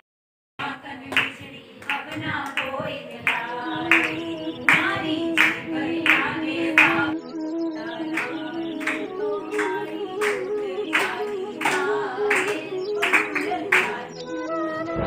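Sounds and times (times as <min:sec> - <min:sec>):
hand-clapping: 0:00.6 - 0:07.1, 0:08.1 - 0:14.1
people singing devotional song: 0:00.6 - 0:15.0.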